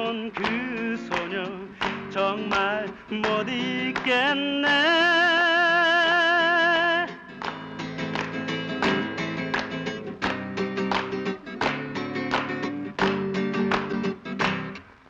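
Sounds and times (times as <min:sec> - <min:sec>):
guitar strumming chords: 0:00.0 - 0:04.8, 0:06.4 - 0:15.0.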